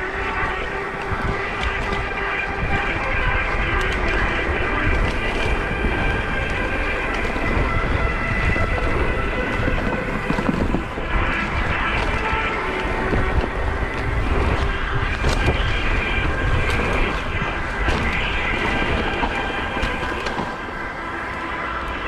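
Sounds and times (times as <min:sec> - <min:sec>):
bike tyres rumbling on dirt: 0:00.0 - 0:22.0
wind buffeting microphone: 0:00.0 - 0:22.0.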